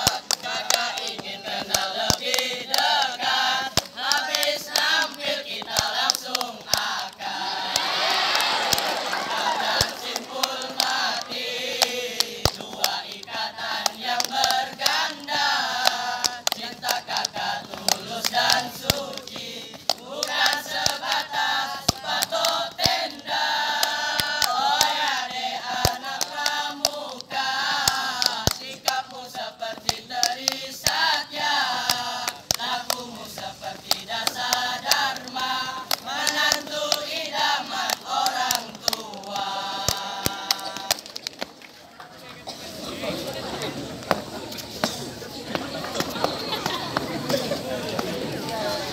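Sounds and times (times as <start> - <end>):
group chanting in unison: 0.0 - 41.1.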